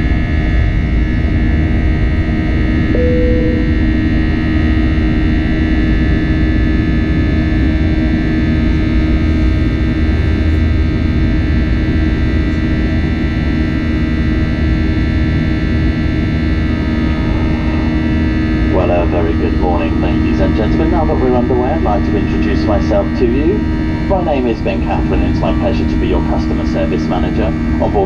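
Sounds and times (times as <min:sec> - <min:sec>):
constant hum tones: 0:00.0 - 0:28.0
jet engines droning: 0:02.9 - 0:04.1, 0:05.8 - 0:28.0.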